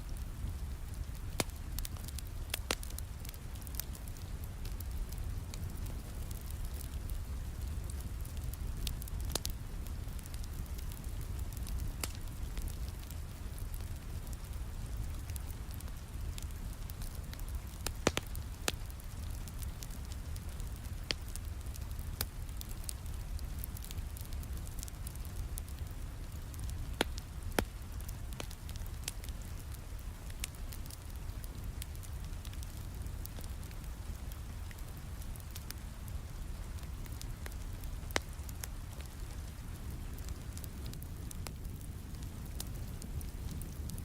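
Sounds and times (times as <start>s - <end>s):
fire popping: 0.0s - 44.0s
steady rain: 0.0s - 44.0s
wood fire crackling: 0.0s - 44.0s.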